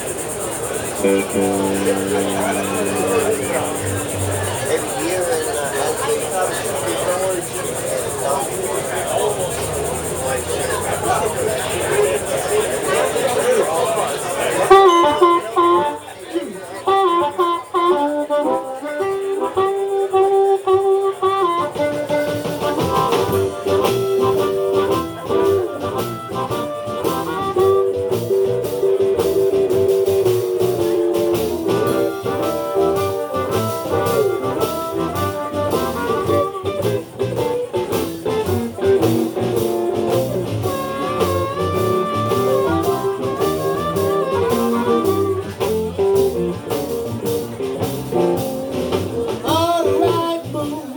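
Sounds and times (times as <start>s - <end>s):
drum beat: 0.0s - 13.0s, 21.8s - 50.9s
blues band playing: 0.0s - 50.9s.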